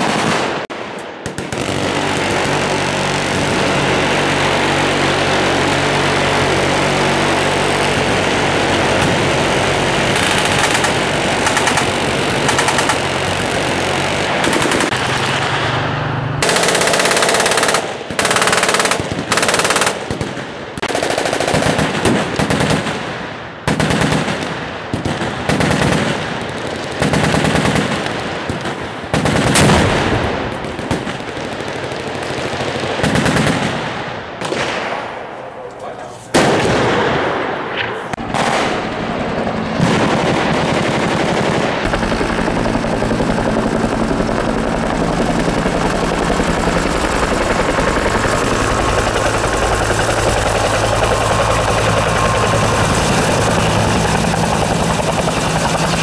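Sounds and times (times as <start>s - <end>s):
machine guns firing: 0.0s - 56.0s.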